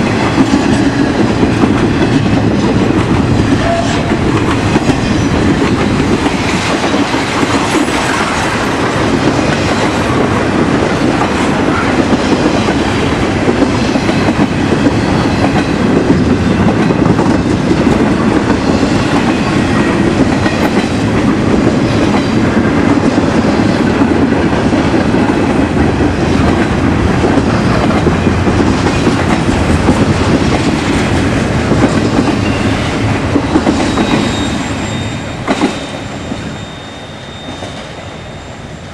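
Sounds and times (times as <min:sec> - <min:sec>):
clickety-clack over rail joints: 0:00.0 - 0:36.8
train wheels rumbling on rails: 0:00.0 - 0:38.9.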